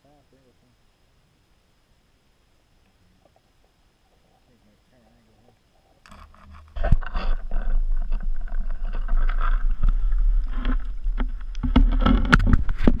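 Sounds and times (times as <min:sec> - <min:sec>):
underwater low rumble: 0:01.0 - 0:13.0.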